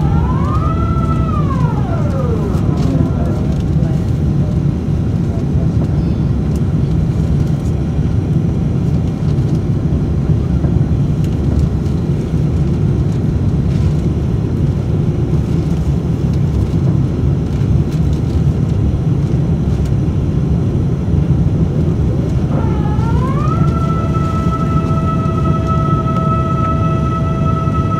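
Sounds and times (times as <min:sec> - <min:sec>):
airplane cabin engine rumble: 0:00.0 - 0:27.9.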